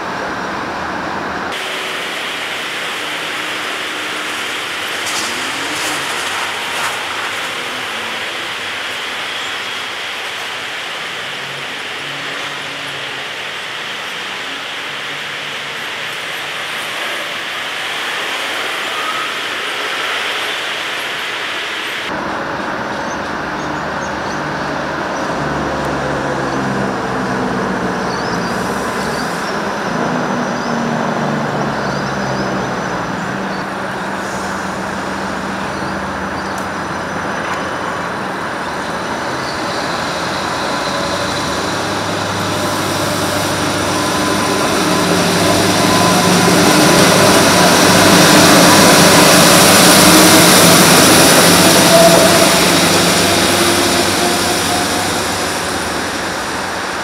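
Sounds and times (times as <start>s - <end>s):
diesel railcar engine hum: 0.0s - 57.0s
rushing rail noise: 0.0s - 57.0s
wheels rumbling on track: 0.0s - 57.0s.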